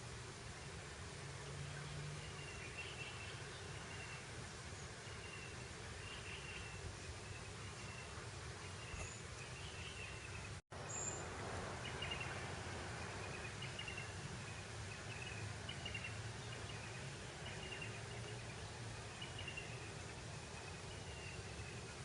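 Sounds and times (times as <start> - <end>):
breeze over grassland: 0.0 - 22.0.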